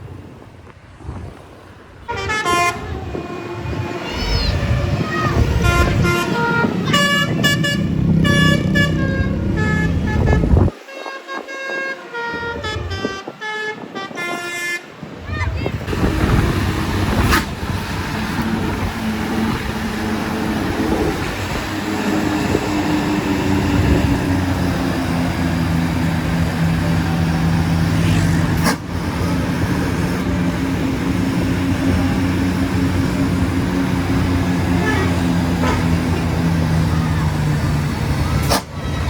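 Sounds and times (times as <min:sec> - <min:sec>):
bus engine running: 0:00.0 - 0:10.8, 0:11.4 - 0:39.0
road traffic noise: 0:00.0 - 0:39.0.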